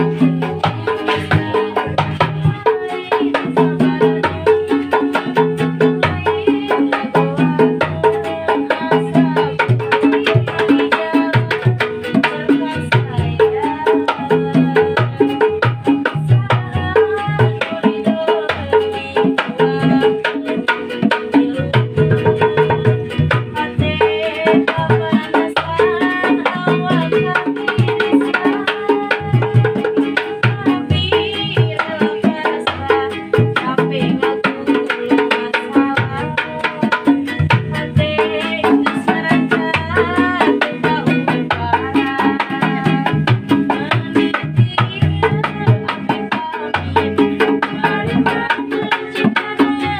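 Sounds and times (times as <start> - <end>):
instrumental melody: 0.0 - 49.9
quick drum beat: 0.0 - 49.9.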